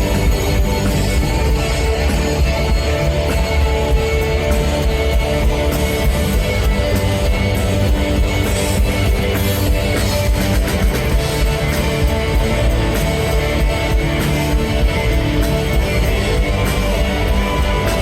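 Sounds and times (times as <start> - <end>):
drum kit with cymbals: 0.0 - 18.0
guitars: 0.0 - 18.0.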